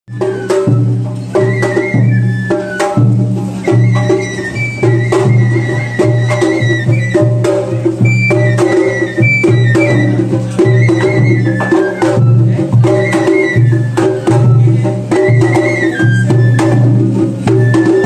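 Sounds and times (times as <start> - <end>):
bamboo flute melody: 0.1 - 18.0
taiko drum strikes: 0.1 - 18.0.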